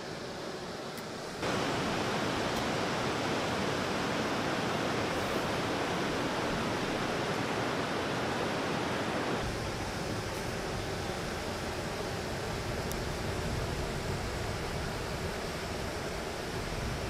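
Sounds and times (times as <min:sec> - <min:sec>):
fast-flowing water rushing: 0:00.1 - 0:17.0.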